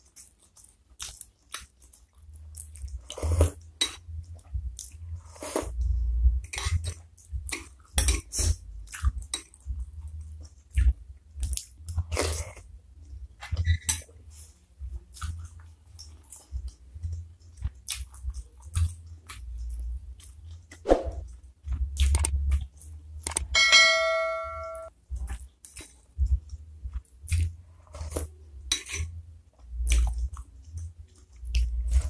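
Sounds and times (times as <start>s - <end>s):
person chewing food: 0.0s - 12.7s, 13.4s - 23.5s, 25.1s - 32.0s.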